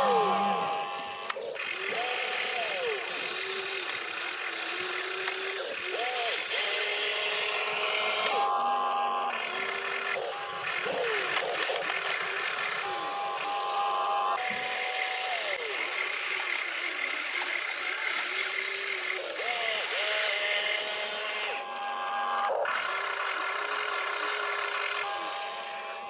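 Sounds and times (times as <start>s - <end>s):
toy electric motors whining: 0.0s - 26.0s.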